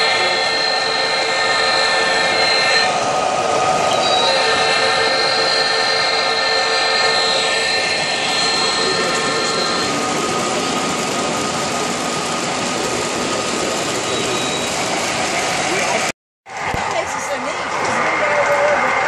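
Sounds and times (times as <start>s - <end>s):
held steady tones: 0.0s - 16.1s
model train wheels on metal track: 0.0s - 19.0s.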